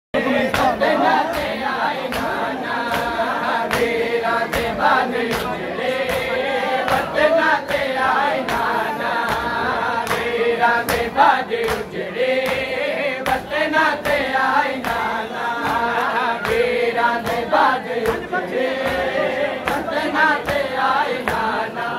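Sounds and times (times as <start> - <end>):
men singing in a chanting melody: 0.2 - 21.9
chest-beating slaps: 0.5 - 21.5.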